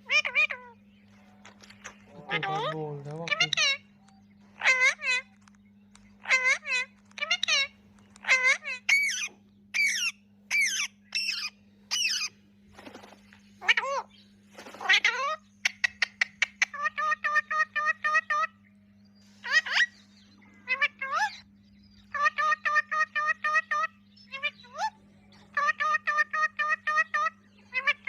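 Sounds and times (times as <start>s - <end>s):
parakeets squawking: 0.0s - 18.6s, 19.3s - 28.0s
parakeet chatter of repeated notes: 0.0s - 28.0s
steady low hum: 0.0s - 28.0s.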